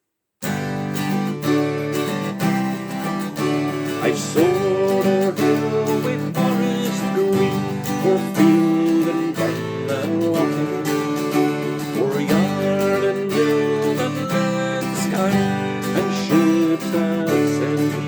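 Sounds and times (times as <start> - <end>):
acoustic guitar strumming: 0.4 - 18.0.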